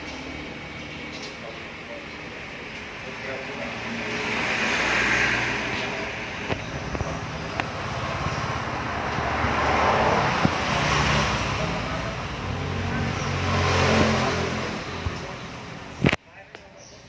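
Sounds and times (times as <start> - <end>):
vehicle engine passing: 0.0 - 16.2.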